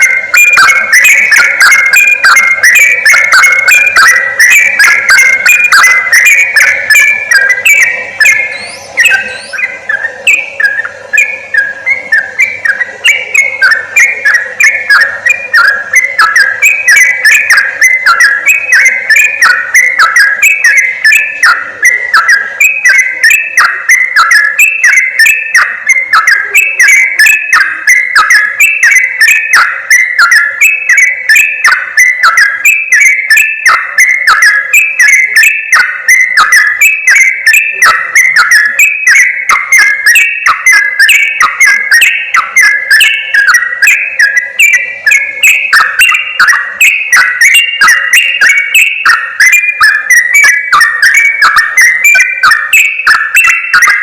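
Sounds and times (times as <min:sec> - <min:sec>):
bird chattering calls: 0:00.0 - 0:54.0.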